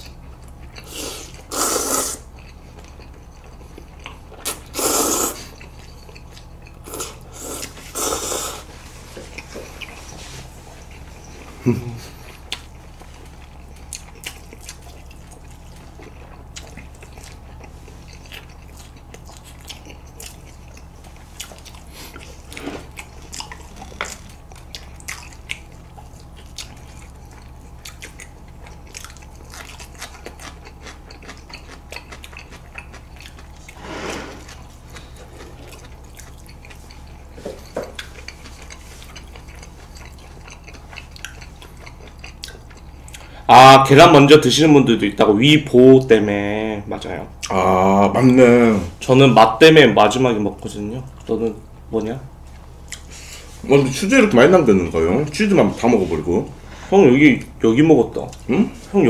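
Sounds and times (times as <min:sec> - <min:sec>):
people chewing: 0:00.0 - 0:44.0, 0:47.0 - 0:49.2, 0:50.5 - 0:59.0
steady low hum: 0:00.0 - 0:59.0.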